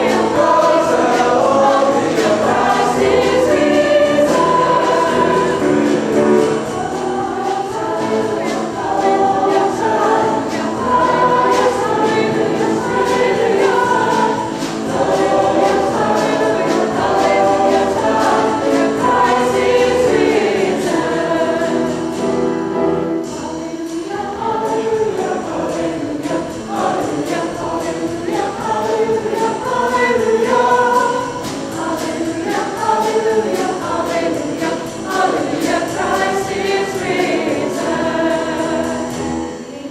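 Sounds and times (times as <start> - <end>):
choir singing a sacred piece: 0.0 - 39.9.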